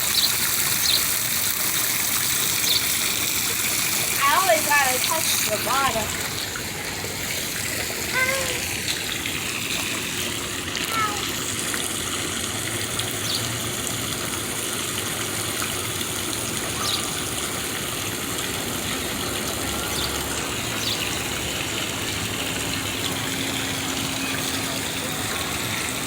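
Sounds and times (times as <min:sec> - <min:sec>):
running water rushing: 0:00.0 - 0:26.0.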